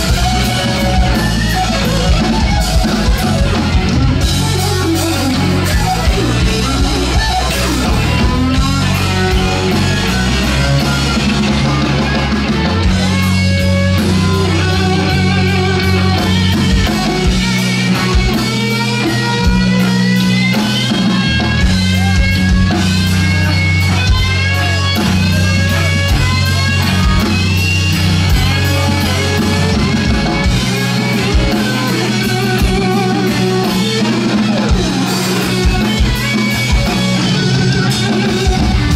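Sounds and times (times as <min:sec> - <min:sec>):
bass guitar: 0:00.0 - 0:38.9
drum kit: 0:00.0 - 0:38.9
electric guitar with string bends: 0:00.0 - 0:38.9.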